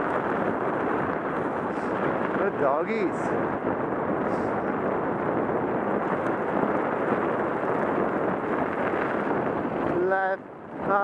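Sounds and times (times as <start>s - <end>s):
tyres rolling over snow: 0.0s - 11.0s
wind buffeting microphone: 0.0s - 11.0s.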